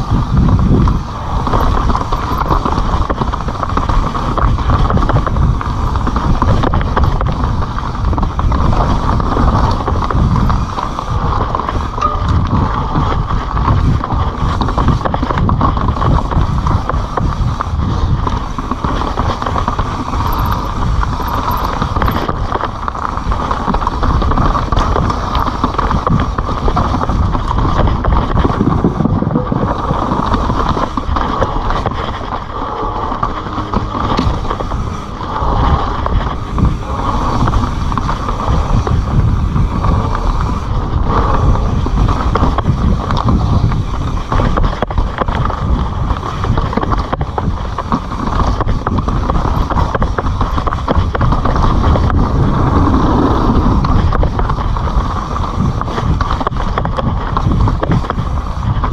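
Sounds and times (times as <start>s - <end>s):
bike rattling: 0.0s - 58.9s
bike tyres rumbling on dirt: 0.0s - 58.9s
wind buffeting microphone: 0.0s - 58.9s.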